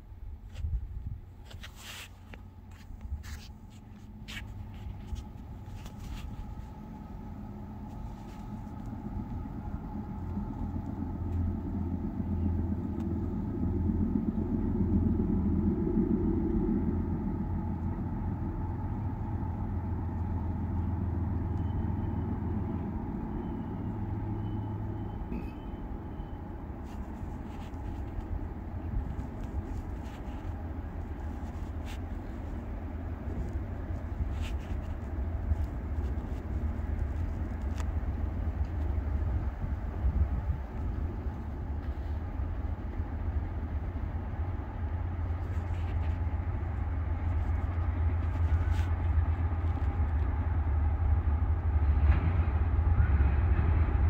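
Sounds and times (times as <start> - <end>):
distant diesel locomotives rumbling: 0.0 - 54.0.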